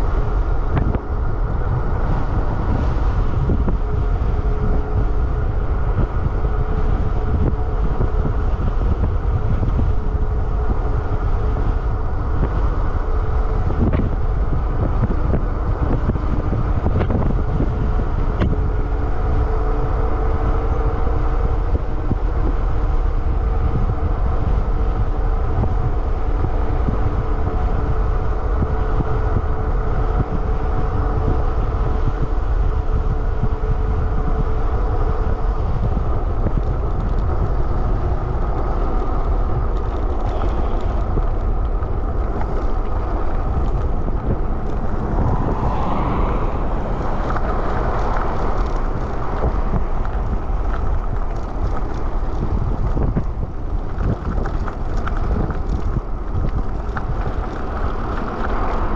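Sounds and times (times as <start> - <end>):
electric hub motor hum: 0.0 - 58.9
tyres rolling on asphalt: 0.0 - 58.9
wind buffeting microphone: 0.0 - 58.9.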